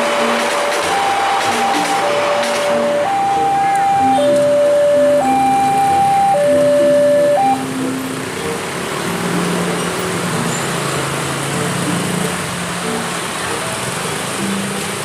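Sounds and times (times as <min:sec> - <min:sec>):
faint music notes: 0:00.0 - 0:15.0
vehicle rumble and hiss: 0:00.0 - 0:15.0.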